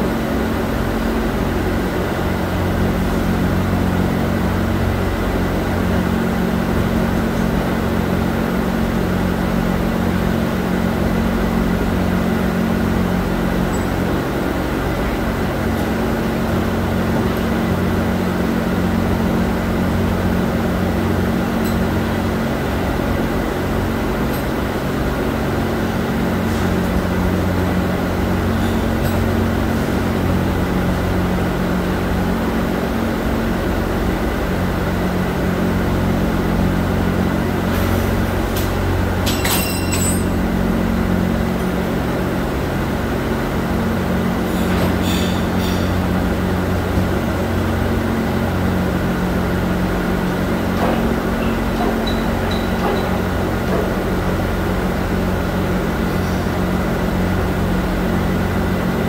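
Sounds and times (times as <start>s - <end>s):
factory machinery humming: 0.0s - 59.0s.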